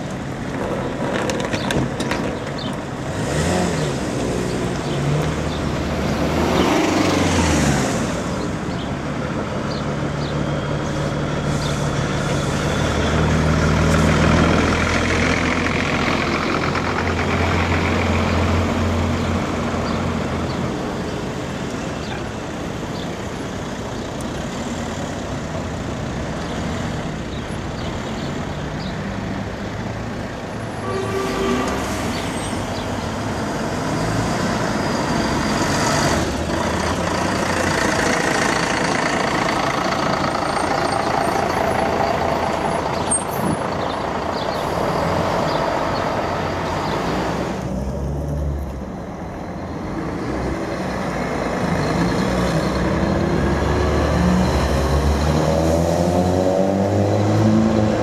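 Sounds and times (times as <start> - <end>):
car engines: 0.0 - 58.0
diesel coach engines: 0.0 - 58.0.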